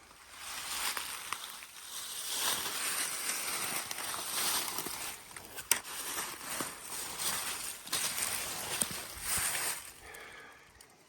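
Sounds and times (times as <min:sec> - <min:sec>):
rustling in dry leaves: 0:00.0 - 0:10.4.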